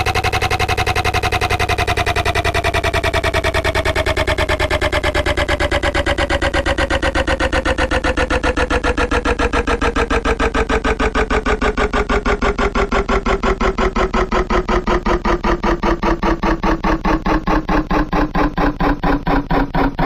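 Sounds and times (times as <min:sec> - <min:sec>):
washing machine pulsing beat: 0:00.0 - 0:20.0.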